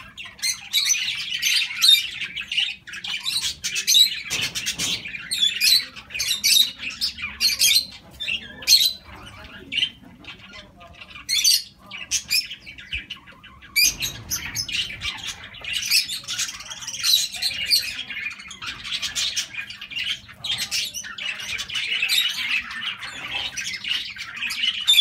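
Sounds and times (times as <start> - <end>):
birds chirping and squawking: 0.0 - 25.0.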